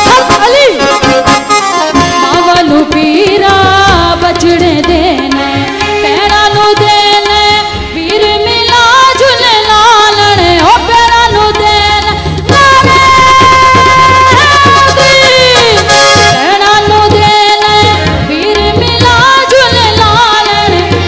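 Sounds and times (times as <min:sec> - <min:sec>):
folk band music through pa: 0:00.0 - 0:21.0
tabla: 0:00.0 - 0:21.0.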